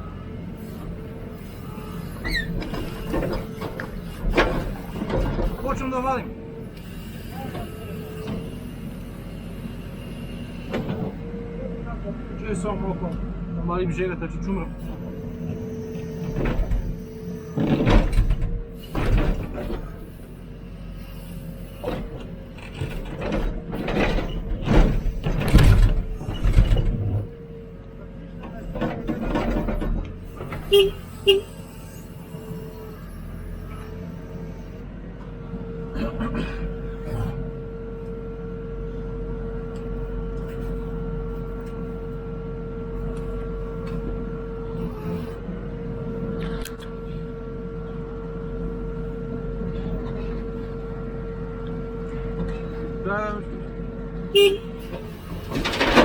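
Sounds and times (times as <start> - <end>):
hydraulic whine: 0.0 - 11.5, 14.4 - 53.0
diesel engine running: 0.0 - 56.0.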